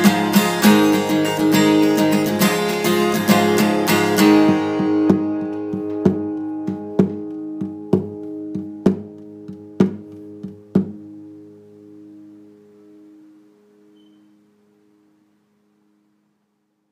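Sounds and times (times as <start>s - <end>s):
acoustic guitar strumming: 0.0s - 15.6s.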